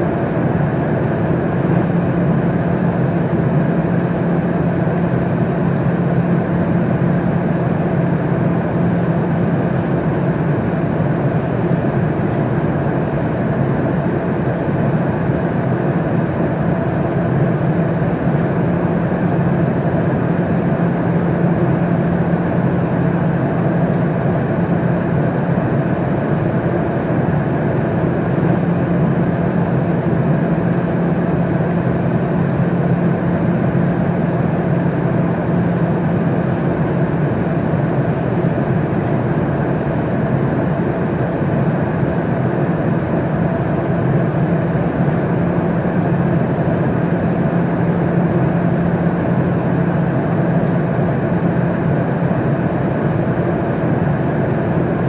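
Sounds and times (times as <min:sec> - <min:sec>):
airplane cabin roar: 0:00.0 - 0:55.0.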